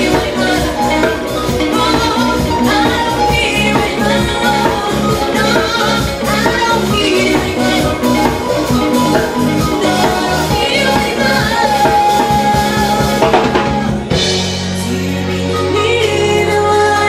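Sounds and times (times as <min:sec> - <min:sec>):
drum kit: 0:00.0 - 0:17.0
held bass notes: 0:00.0 - 0:17.0
live band playing: 0:00.0 - 0:17.0
person singing: 0:00.0 - 0:17.0.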